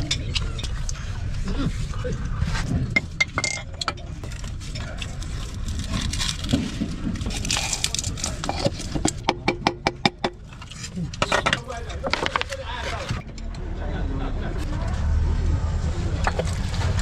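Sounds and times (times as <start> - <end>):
low workshop rumble: 0.0 - 17.0.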